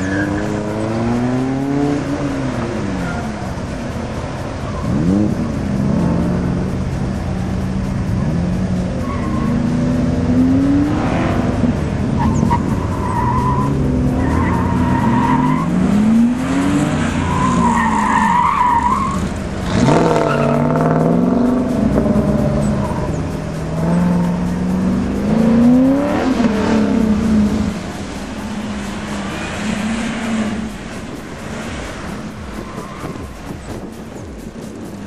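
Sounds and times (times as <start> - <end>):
car engine revving: 0.0 - 35.0
tires squealing: 0.0 - 35.0.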